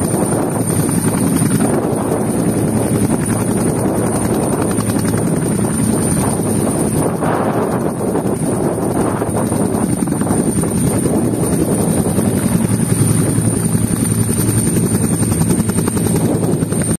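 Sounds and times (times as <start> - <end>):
helicopter engine whine: 0.0 - 17.0
helicopter rotor beating: 0.0 - 17.0.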